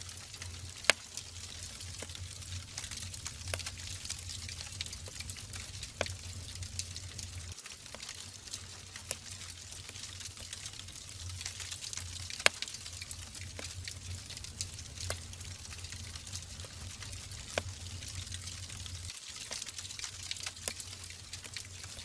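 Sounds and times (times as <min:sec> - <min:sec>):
wood fire hissing and crackling: 0:00.0 - 0:22.0.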